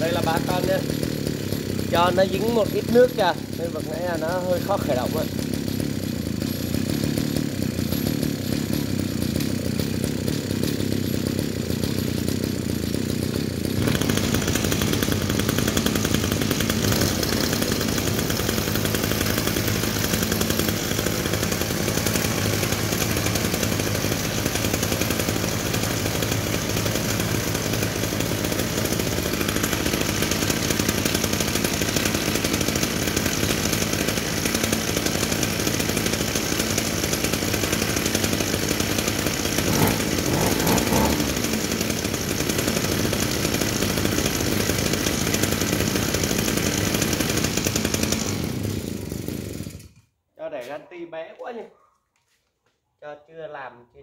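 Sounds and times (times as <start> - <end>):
brush cutter engines idling: 0.0 - 51.7.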